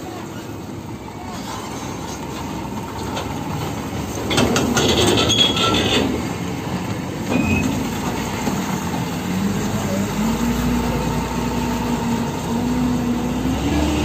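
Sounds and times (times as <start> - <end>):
heavy truck rumbling past: 0.0 - 14.0.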